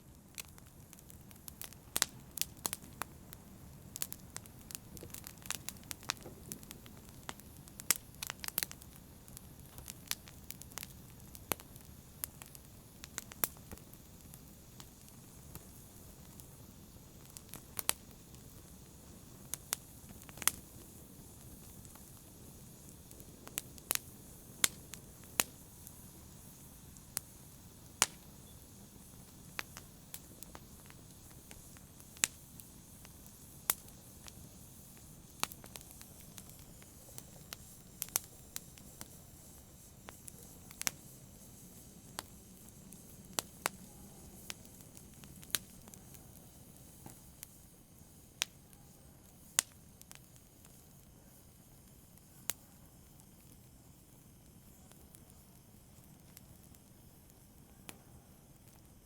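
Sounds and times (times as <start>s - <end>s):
campfire crackling and popping: 0.0s - 59.0s
low steady hiss: 0.0s - 59.0s.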